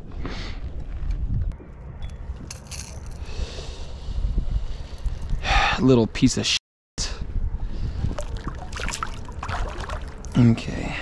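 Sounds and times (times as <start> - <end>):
wind buffeting microphone: 0.0 - 5.8, 7.1 - 11.0.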